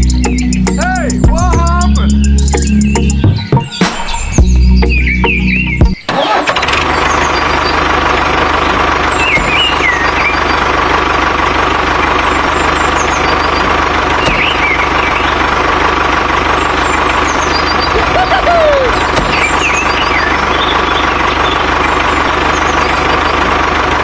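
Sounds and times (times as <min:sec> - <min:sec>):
birds chirping: 0:00.0 - 0:24.0
tractor engine running with whine: 0:00.0 - 0:24.0.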